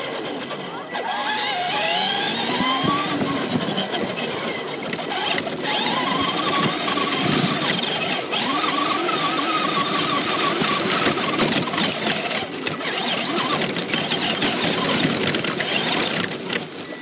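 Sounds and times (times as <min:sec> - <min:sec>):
toy car motor whining: 0:00.0 - 0:17.0
tyres rushing on ground: 0:00.0 - 0:17.0.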